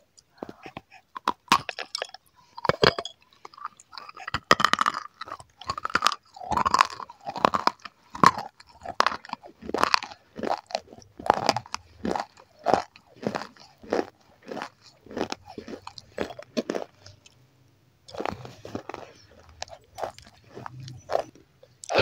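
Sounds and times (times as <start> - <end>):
mouth chewing crunchy snacks: 0.0 - 22.0.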